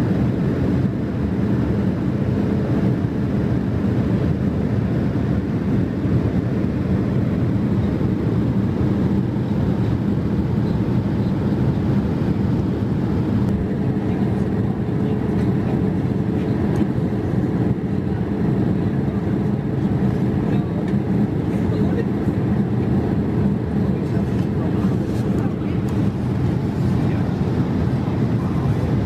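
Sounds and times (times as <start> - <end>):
aircraft cabin engine rush: 0.0 - 29.0.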